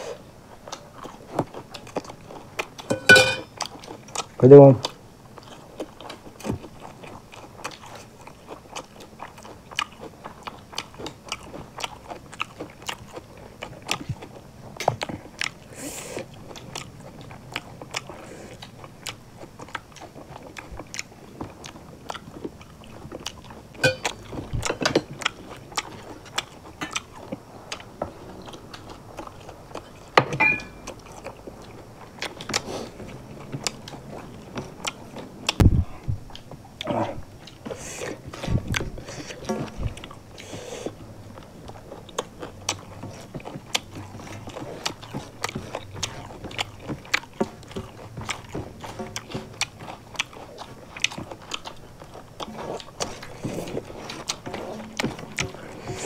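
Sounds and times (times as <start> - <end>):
close-up chewing and crunching: 0.0 - 56.0.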